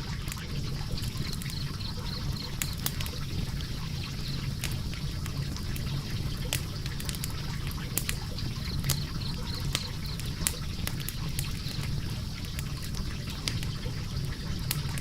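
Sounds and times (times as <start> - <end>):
fire crackling and popping: 0.0 - 15.0
fire rumbling and hissing: 0.0 - 15.0.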